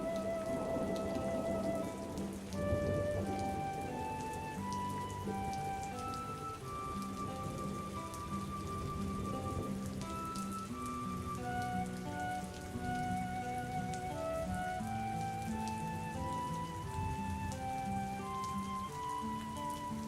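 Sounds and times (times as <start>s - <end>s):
rain drop ticks: 0.0s - 20.0s
soft slow music: 0.0s - 20.0s
steady rain: 0.0s - 20.0s.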